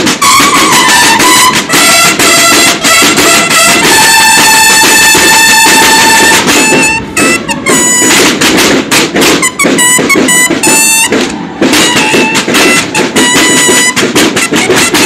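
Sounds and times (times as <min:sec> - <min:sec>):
bugle notes: 0:00.0 - 0:15.0
rapid snare drumming: 0:00.0 - 0:15.0.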